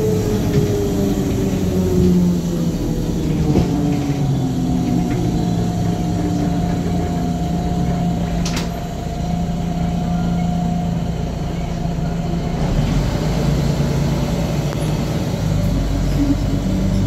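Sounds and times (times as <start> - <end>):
bus drive whine and rumble: 0.0 - 17.0.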